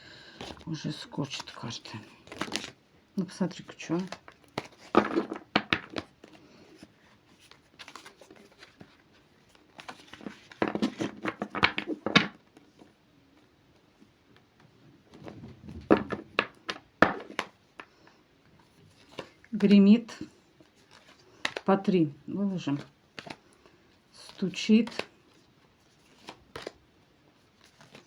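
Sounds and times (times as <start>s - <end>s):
cards being shuffled: 0.4s - 2.8s, 3.6s - 13.8s, 15.1s - 18.0s, 18.6s - 26.8s, 27.4s - 28.0s.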